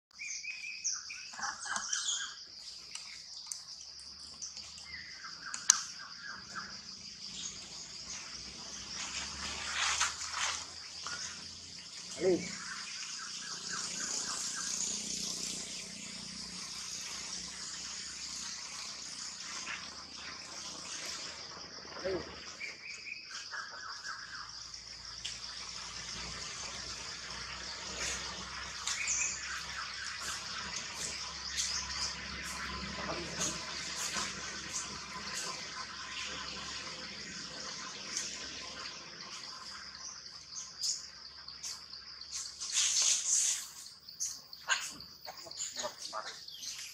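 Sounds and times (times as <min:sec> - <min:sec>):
birds chirping: 0:00.1 - 0:46.9
insects droning: 0:00.2 - 0:46.9
steady high-pitched hiss: 0:02.0 - 0:46.9.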